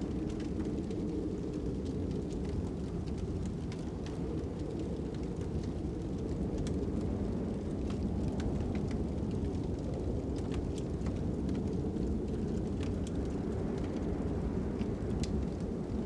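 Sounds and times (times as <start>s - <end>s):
low wind rumble: 0.0s - 16.0s
wood fire crackling: 0.0s - 16.0s.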